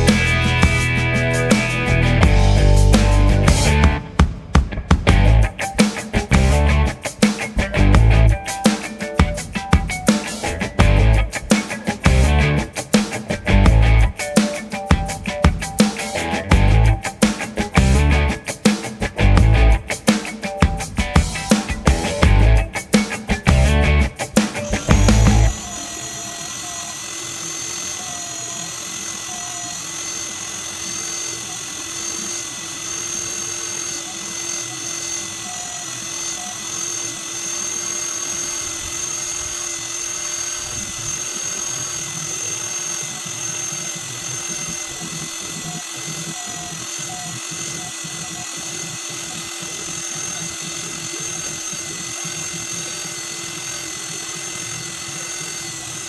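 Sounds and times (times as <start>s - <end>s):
motor whining: 5.2s - 56.0s.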